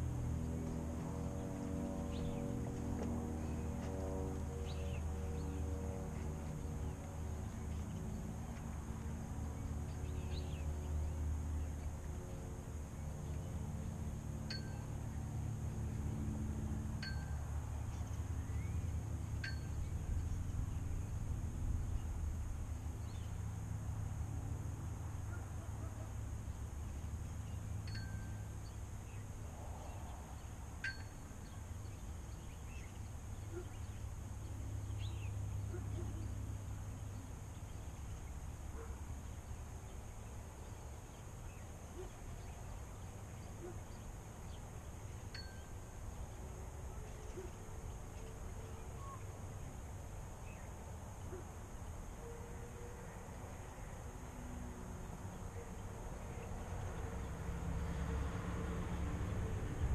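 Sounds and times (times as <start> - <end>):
low hum: 0.0 - 49.7.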